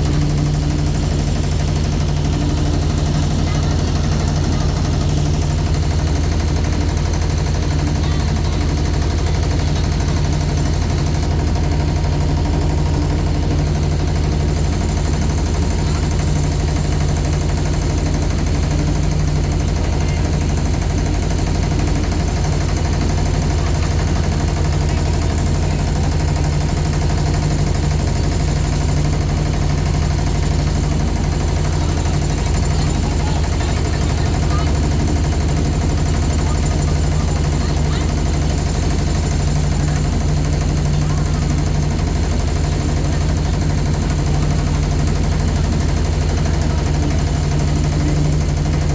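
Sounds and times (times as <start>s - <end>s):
boat engine chugging: 0.0s - 48.9s.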